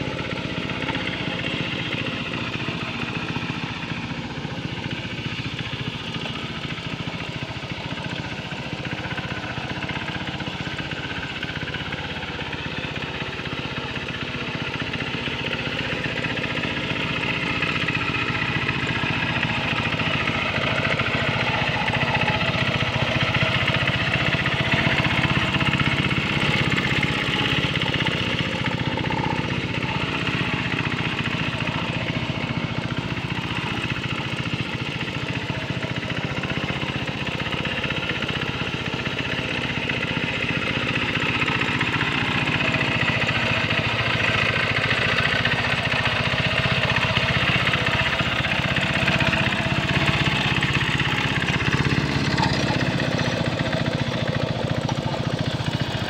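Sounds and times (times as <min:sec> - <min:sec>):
hand tractor engine running: 0:00.0 - 0:56.0.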